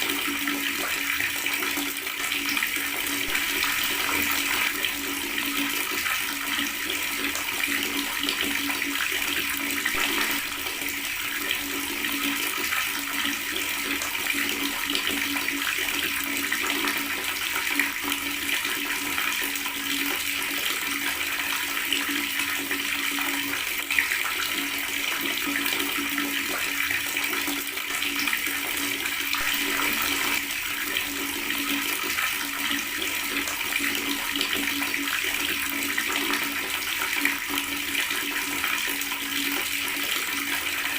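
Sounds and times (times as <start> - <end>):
water tap running and gurgling: 0.0 - 40.9.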